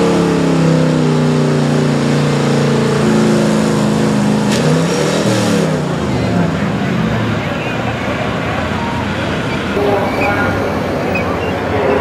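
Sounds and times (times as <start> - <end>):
truck engine revving under load: 0.0 - 12.0.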